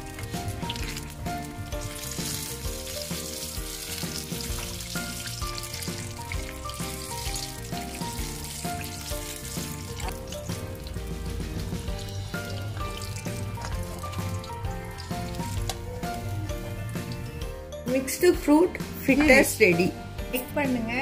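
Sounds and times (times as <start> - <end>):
fritters sizzling in hot oil: 0.0 - 17.4
background music with melody: 0.0 - 21.0.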